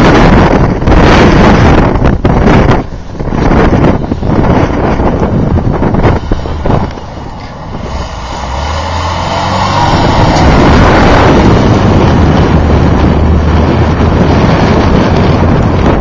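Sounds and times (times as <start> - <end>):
loud rushing noise: 0.0 - 16.0
vehicle engine running hard: 0.0 - 16.0.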